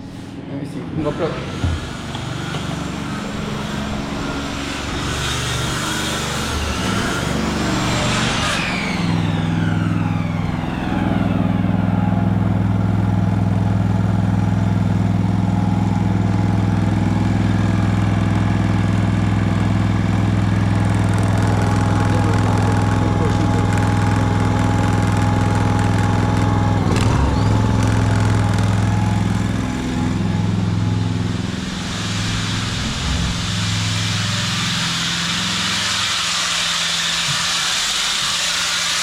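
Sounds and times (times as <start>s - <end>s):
low engine drone: 0.0s - 39.0s
power tool whine winding down: 1.0s - 39.0s.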